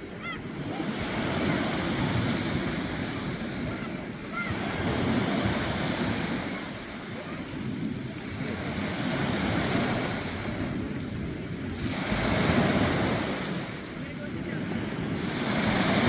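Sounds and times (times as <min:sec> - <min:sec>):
small waves breaking on shore: 0:00.0 - 0:16.0
wind rumbling on microphone: 0:00.0 - 0:16.0.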